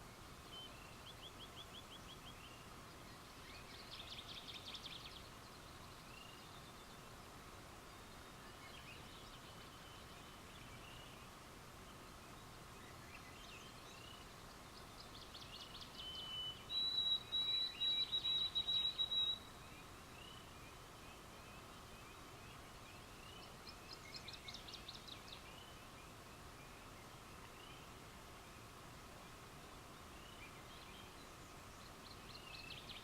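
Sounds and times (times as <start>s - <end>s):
low hiss: 0.0s - 33.0s.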